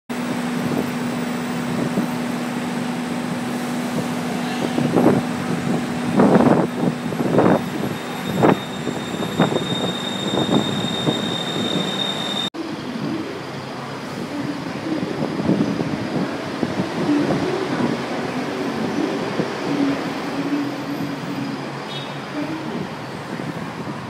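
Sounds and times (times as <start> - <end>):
rushing background noise: 0.1 - 24.0.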